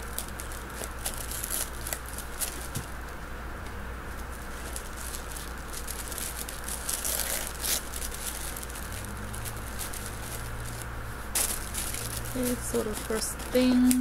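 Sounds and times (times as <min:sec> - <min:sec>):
tissue paper rustling and crinkling: 0:00.0 - 0:03.0, 0:04.1 - 0:14.0
low steady hum: 0:00.0 - 0:14.0.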